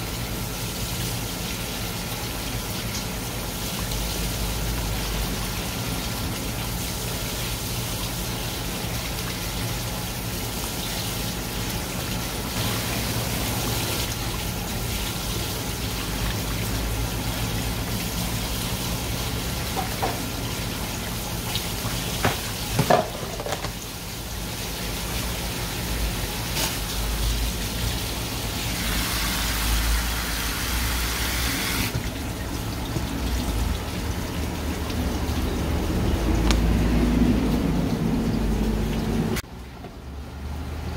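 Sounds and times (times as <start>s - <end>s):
tap water running into sink: 1.0s - 25.6s, 26.4s - 40.0s.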